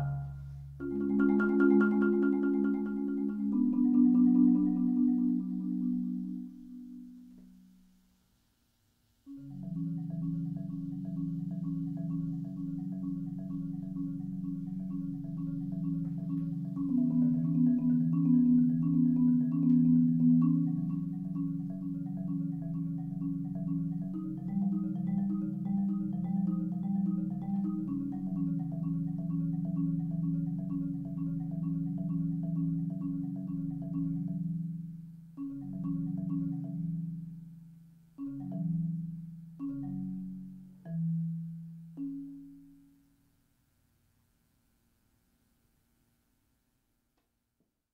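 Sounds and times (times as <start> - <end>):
marimba rolled chords: 0.0 - 7.3, 9.3 - 43.0.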